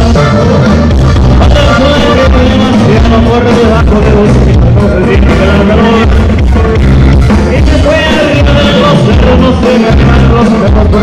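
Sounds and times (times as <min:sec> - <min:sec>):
accordion: 0:00.0 - 0:11.0
bass: 0:00.0 - 0:11.0
drum kit beat: 0:00.0 - 0:11.0
electric guitars: 0:00.0 - 0:11.0.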